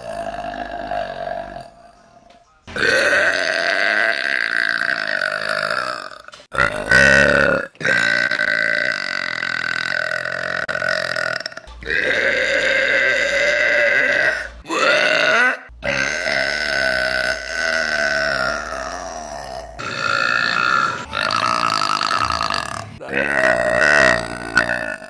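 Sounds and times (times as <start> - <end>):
woman burping: 2.7 - 25.0.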